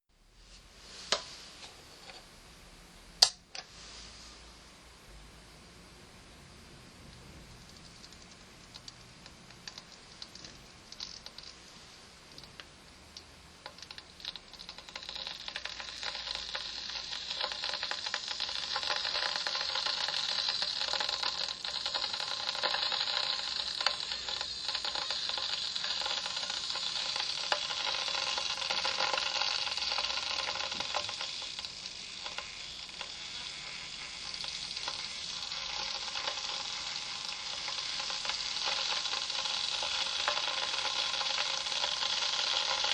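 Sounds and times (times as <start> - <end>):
electric kettle heating water: 0.9 - 42.9.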